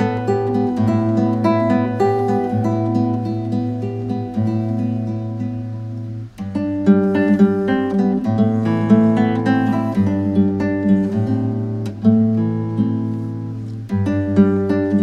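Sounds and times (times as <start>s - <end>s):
classical guitar fingerstyle: 0.0s - 15.0s.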